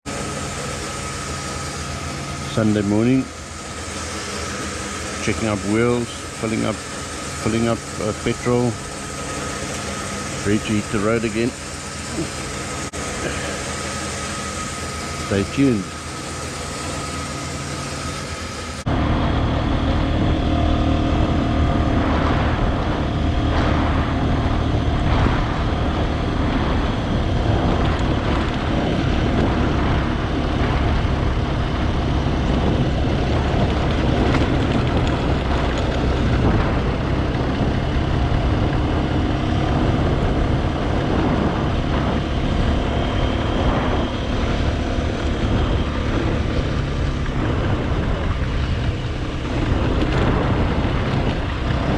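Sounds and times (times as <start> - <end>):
motorcycle engine drone: 0.0 - 51.9.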